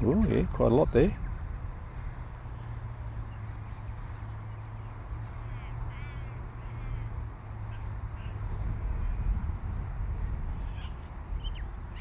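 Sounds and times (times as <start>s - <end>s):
wind buffeting microphone: 0.0s - 12.0s
faint bird calls: 0.8s - 9.4s, 10.4s - 12.0s.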